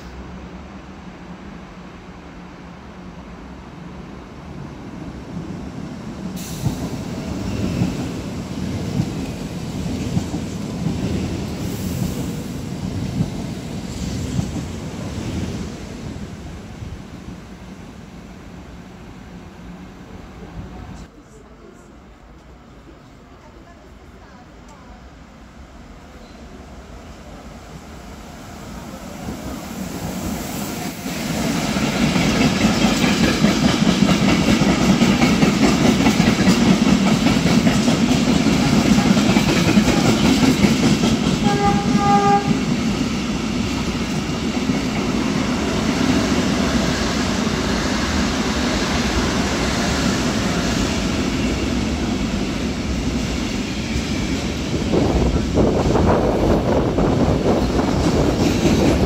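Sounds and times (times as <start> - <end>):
freight train passing at speed: 0.0 - 59.0.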